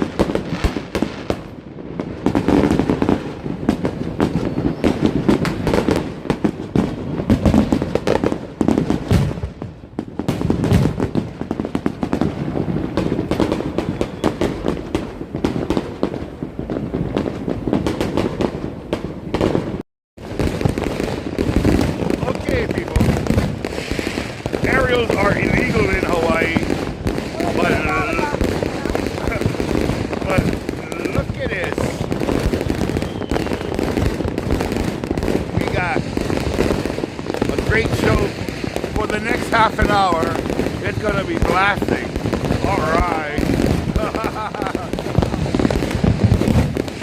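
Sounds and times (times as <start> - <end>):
fireworks popping and banging: 0.0 - 47.0.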